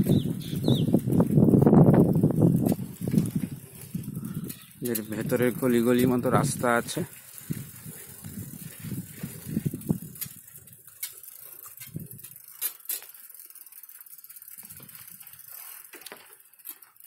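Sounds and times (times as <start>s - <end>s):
bicycle frame clicks and knocks: 0.0s - 17.0s
bicycle rattling on dirt track: 0.0s - 17.0s.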